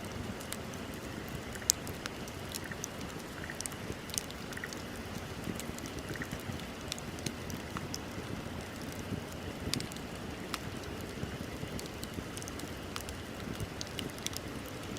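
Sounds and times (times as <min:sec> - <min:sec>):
burning wood popping: 0:00.0 - 0:14.9
flames rumbling: 0:00.0 - 0:14.9.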